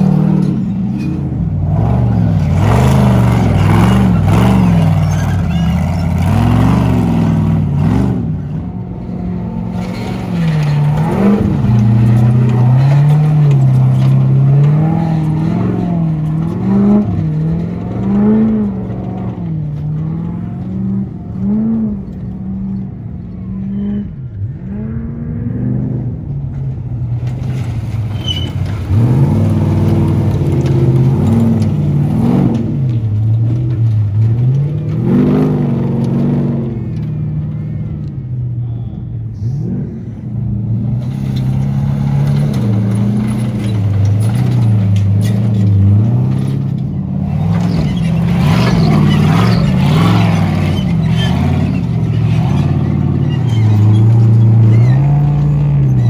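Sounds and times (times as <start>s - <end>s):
buggy engines revving: 0.0s - 56.0s.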